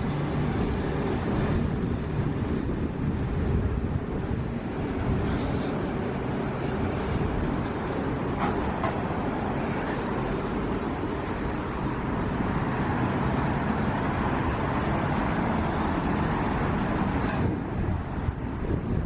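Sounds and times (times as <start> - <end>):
road traffic going by: 0.0 - 19.0.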